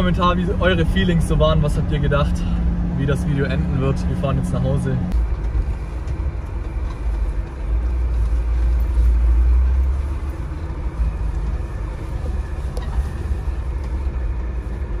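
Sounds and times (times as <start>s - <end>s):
diesel engine rumble from inside: 0.0s - 15.0s.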